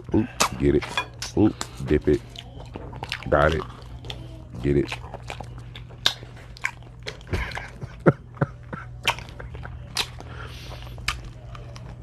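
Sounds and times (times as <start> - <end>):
chewing and cracking crab shell: 0.0 - 12.0
steady low hum: 0.0 - 12.0.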